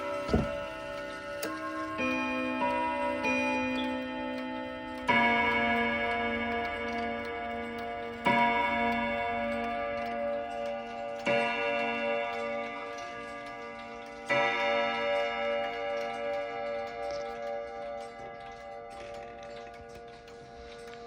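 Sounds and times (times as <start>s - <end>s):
clock striking: 0.0s - 21.0s.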